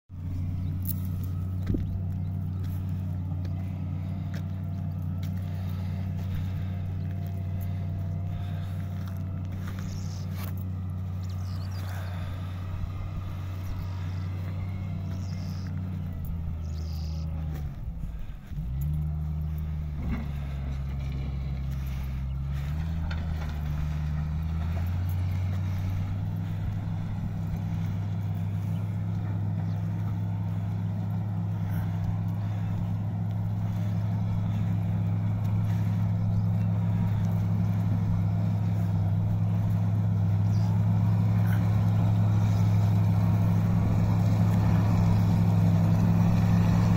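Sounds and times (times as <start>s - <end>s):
diesel engine running under load: 0.1s - 46.9s.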